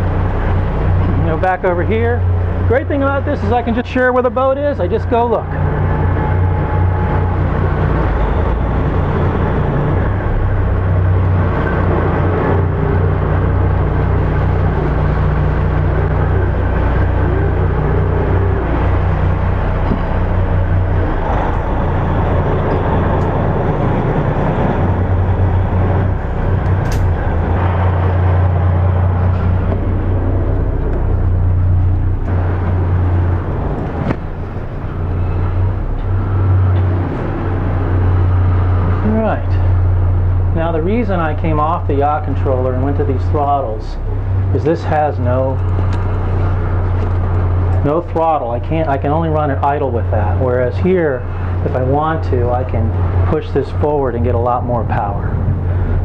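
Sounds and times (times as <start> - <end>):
boat engines idling: 0.0 - 56.0.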